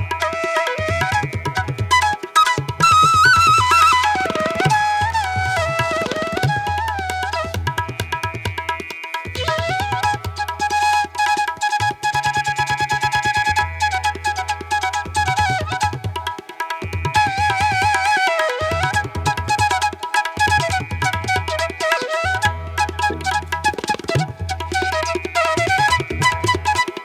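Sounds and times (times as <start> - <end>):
indian instrumental music: 0.0 - 27.0.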